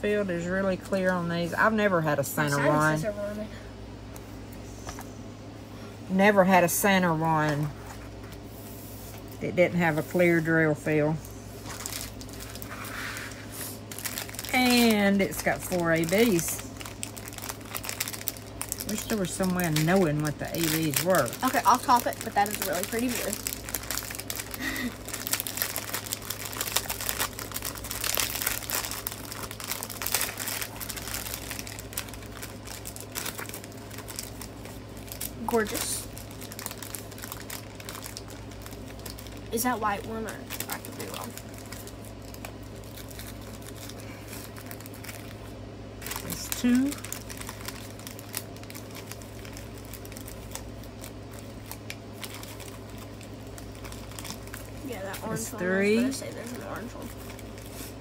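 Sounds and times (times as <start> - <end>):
low steady hum: 0.0 - 58.0
plastic bags crinkling: 9.2 - 58.0.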